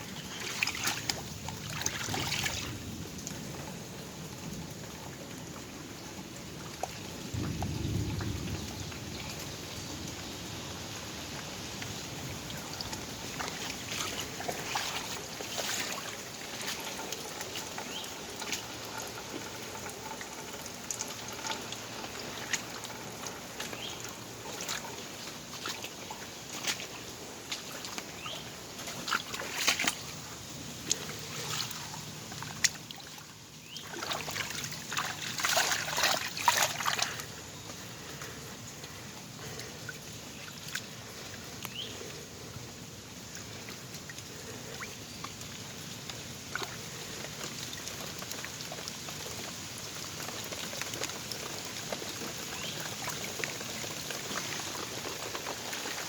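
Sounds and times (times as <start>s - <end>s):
water splashing and sloshing: 0.0s - 56.0s.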